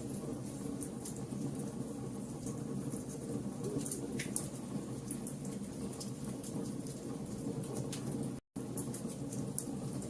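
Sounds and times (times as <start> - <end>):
fire crackling and popping: 0.0 - 10.0
fire rumbling: 0.0 - 10.0.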